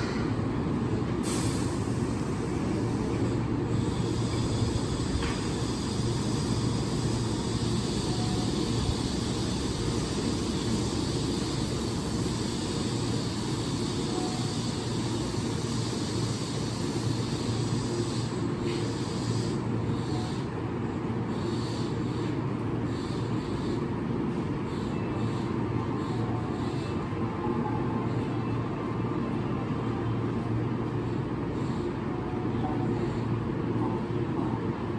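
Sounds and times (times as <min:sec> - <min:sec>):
electric train humming: 0:00.0 - 0:34.9.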